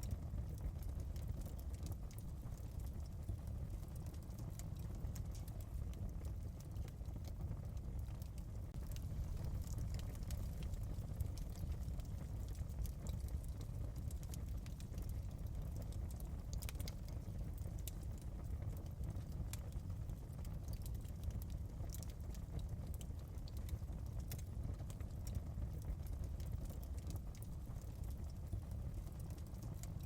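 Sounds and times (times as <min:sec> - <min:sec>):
fire crackling and popping: 0:00.0 - 0:30.0
fire flames rumbling: 0:00.0 - 0:30.0.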